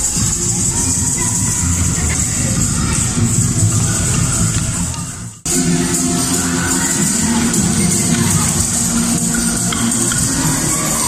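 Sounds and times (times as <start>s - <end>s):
loud music: 0.0s - 11.0s.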